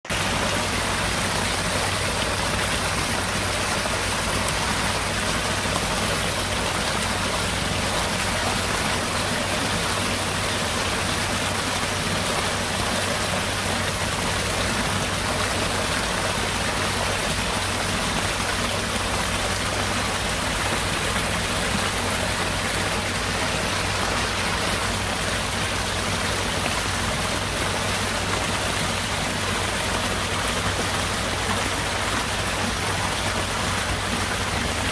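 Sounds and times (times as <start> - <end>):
heavy rain on flooded ground: 0.0 - 34.9.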